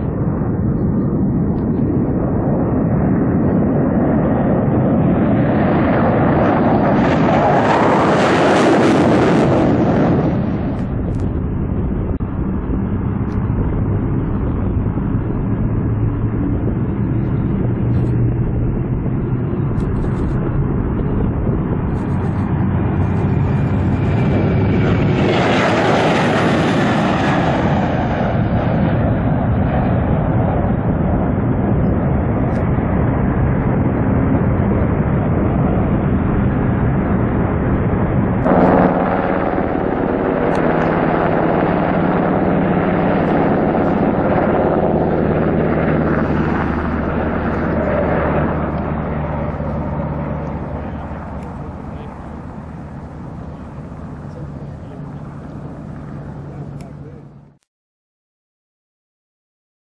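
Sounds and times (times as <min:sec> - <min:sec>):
helicopter rotor and turbine: 0:00.0 - 0:57.6
jet engines roaring: 0:00.0 - 0:57.6.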